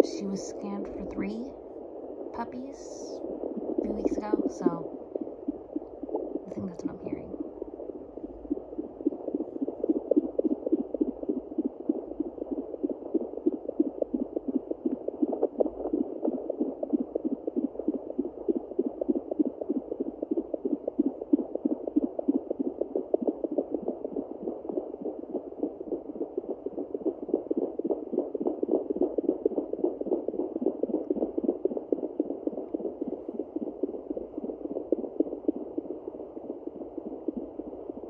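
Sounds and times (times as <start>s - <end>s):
fast heartbeat pulse from doppler: 0.0s - 38.0s.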